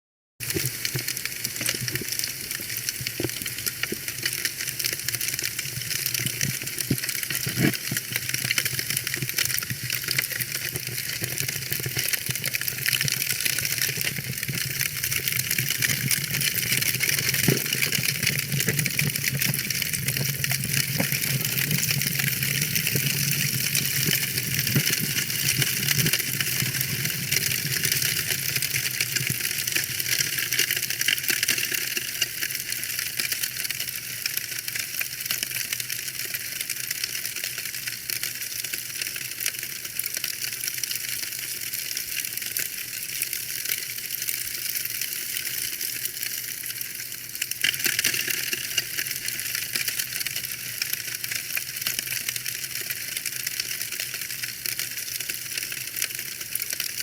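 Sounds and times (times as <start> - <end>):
wood fire crackling and popping: 0.4 - 57.0.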